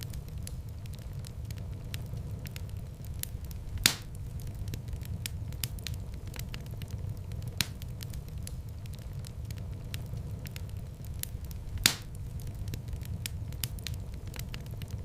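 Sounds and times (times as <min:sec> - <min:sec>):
fire popping: 0:00.0 - 0:15.0
low rumble of flames: 0:00.0 - 0:15.0
wood fire crackling: 0:00.0 - 0:15.0.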